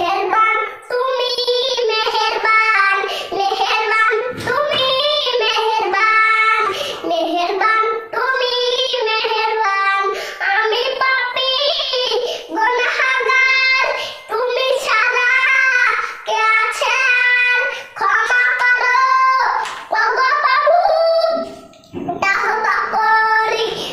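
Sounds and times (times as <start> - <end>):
boy singing unaccompanied: 0.0 - 23.9.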